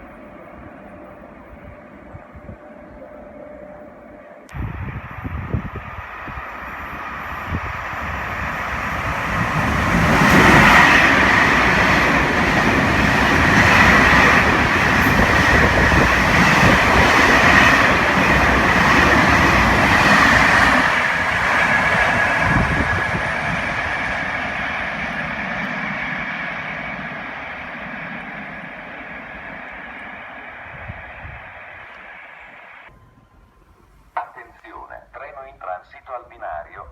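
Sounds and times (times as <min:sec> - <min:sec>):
train passing on rails: 0:00.0 - 0:36.9.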